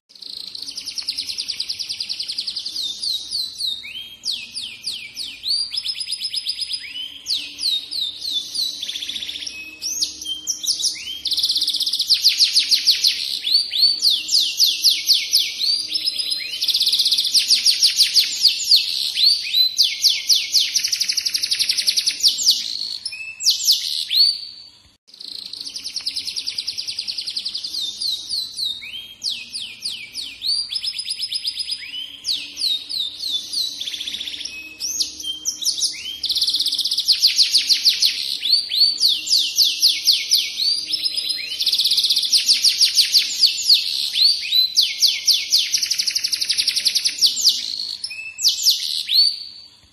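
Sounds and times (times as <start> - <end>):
canary singing trills: 0.1 - 49.7.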